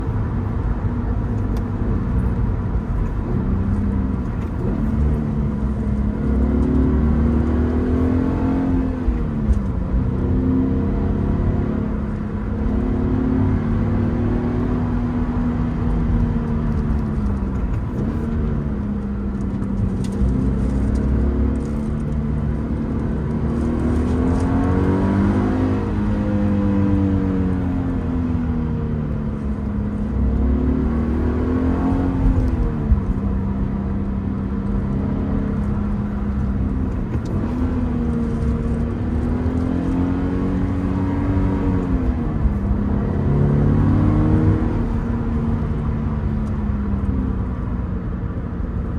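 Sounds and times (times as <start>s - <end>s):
car engine revving with gear changes: 0.0s - 48.9s.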